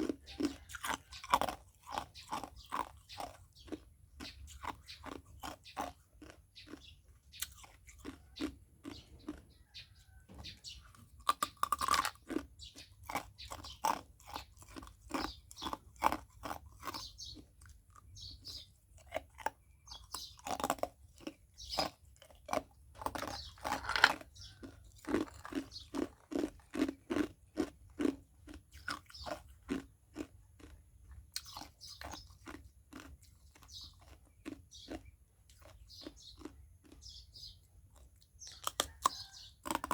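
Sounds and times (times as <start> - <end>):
ice cubes crunched and chewed: 0.0 - 39.9.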